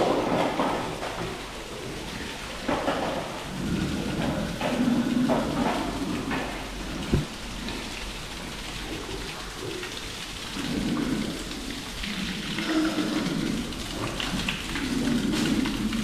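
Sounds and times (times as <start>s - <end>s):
hose water splashing on concrete: 0.0s - 16.0s.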